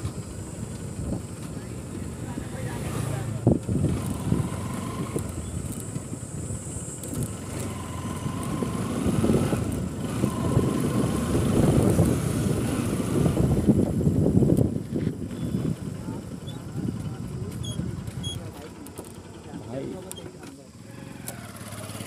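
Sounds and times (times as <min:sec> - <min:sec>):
wind rumble on microphone: 0:00.0 - 0:18.4
motorcycle engine running: 0:00.0 - 0:22.0.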